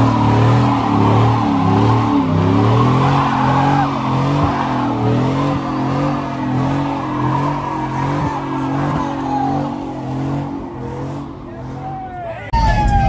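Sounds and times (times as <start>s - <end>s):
engine revving: 0.0s - 12.3s
tyres squealing: 0.0s - 12.5s.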